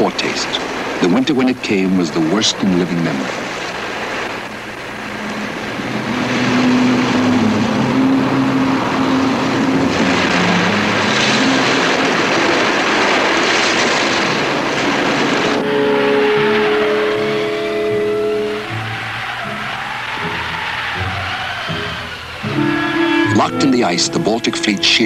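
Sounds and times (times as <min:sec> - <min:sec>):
storm wind and heavy sea: 0:00.0 - 0:25.0
low held music notes: 0:01.0 - 0:13.2, 0:15.6 - 0:25.0.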